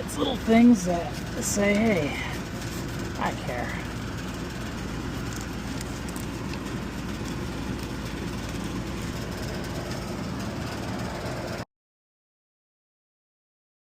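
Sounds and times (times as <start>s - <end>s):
air conditioner humming: 0.0s - 11.6s.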